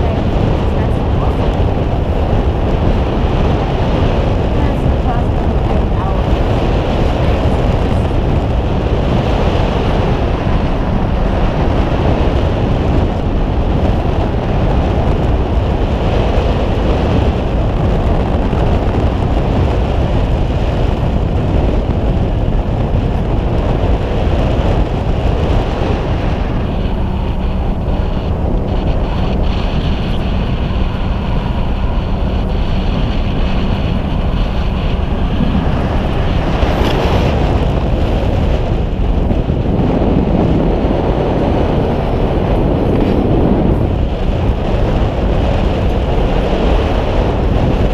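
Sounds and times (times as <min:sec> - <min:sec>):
boat engine: 0:00.0 - 0:47.9
sea running: 0:00.0 - 0:47.9
wind rushing over microphone: 0:00.0 - 0:47.9.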